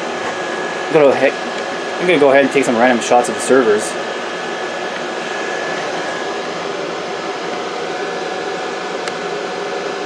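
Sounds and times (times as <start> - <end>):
cooling fans whooshing: 0.0 - 10.0
thin steady whine: 0.0 - 10.0.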